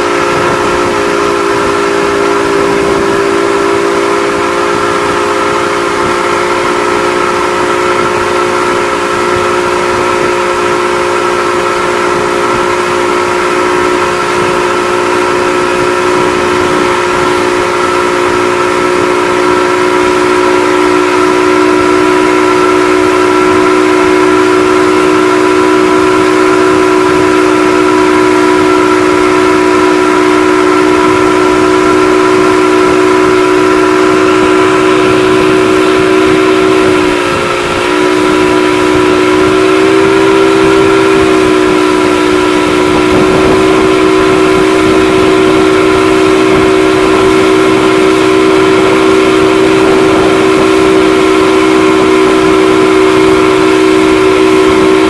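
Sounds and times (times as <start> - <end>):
wind rushing: 0.0 - 23.7, 25.6 - 55.0
churning wake: 0.0 - 55.0
motorboat engine running: 0.0 - 55.0.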